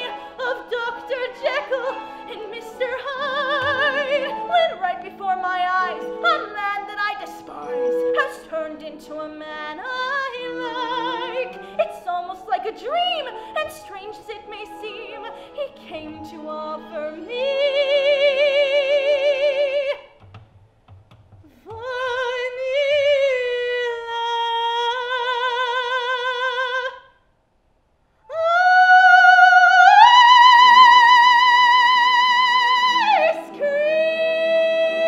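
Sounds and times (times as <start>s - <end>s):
woman singing soprano: 0.0s - 20.2s, 21.5s - 27.2s, 28.2s - 35.0s.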